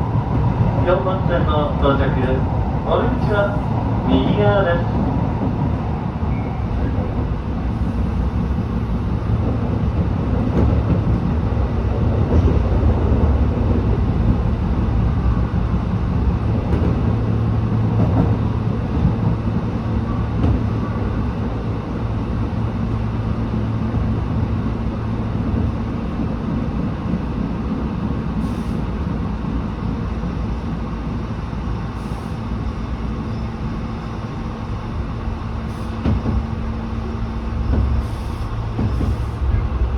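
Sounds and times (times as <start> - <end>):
electric train rumbling and braking: 0.0 - 39.9
low train hum: 0.0 - 39.9.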